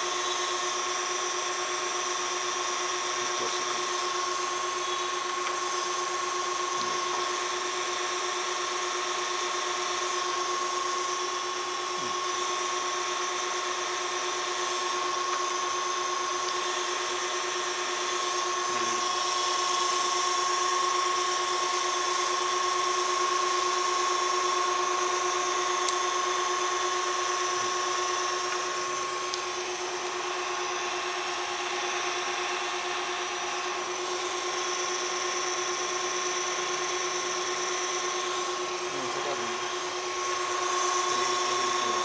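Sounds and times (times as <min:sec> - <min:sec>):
electrical equipment hum and whine: 0:00.0 - 0:42.0.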